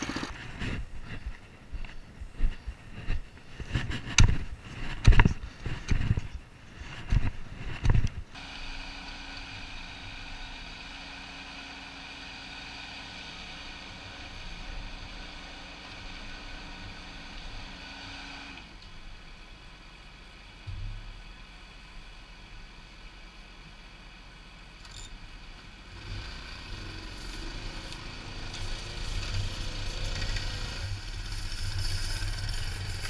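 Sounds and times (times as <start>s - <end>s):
mini excavator hum and whine: 0.0s - 33.0s
tracked dumper engine running: 0.0s - 33.0s.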